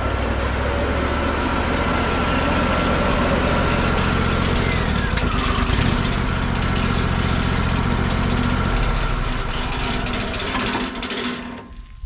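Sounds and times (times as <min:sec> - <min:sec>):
sawmill engine running: 0:00.0 - 0:11.7.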